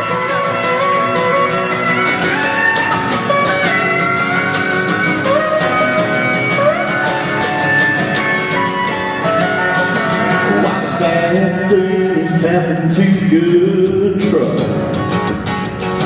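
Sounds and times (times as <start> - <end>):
steel guitar solo: 0.0 - 13.8
country band with drums: 0.0 - 16.0.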